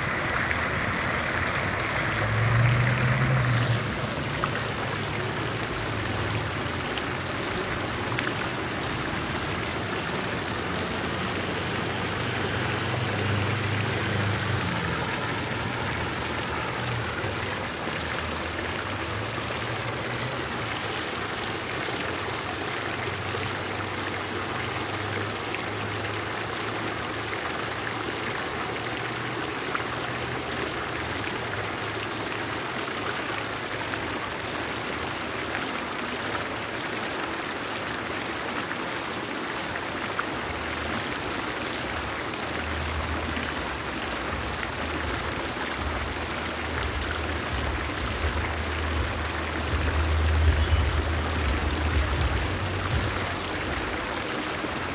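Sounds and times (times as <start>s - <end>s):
fountain water splashing: 0.0s - 54.9s.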